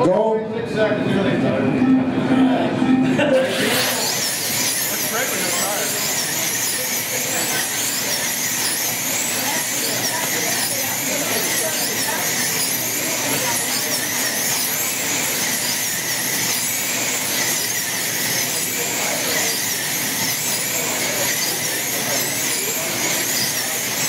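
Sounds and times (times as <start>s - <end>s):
slot car motors whining: 0.0s - 24.0s.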